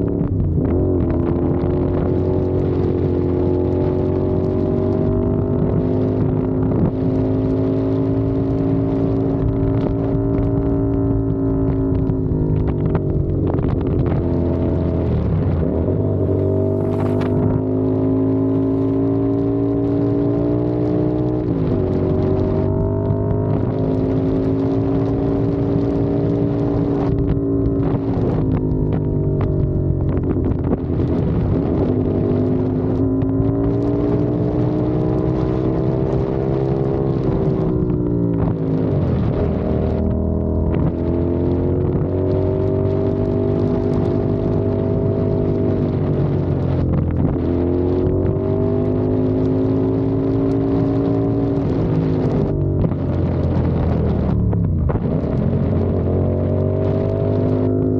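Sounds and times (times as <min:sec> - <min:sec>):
motorcycle engine revving: 0:00.0 - 0:57.9
wind noise on microphone: 0:00.0 - 0:57.9.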